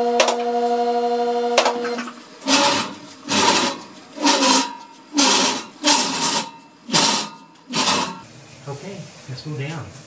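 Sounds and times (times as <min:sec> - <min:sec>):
hydraulic power unit bursts: 0:00.0 - 0:08.2.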